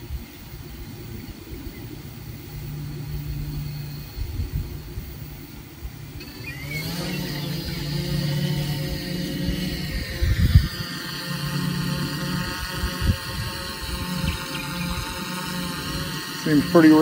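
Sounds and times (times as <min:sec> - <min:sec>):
quadcopter motors whining: 0:00.0 - 0:17.0
wind rumble on microphone: 0:00.0 - 0:17.0.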